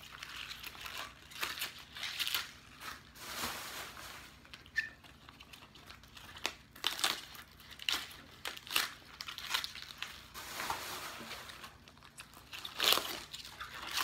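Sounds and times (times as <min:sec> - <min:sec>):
leaves tearing and crumpling: 0:00.0 - 0:04.0, 0:05.3 - 0:14.0.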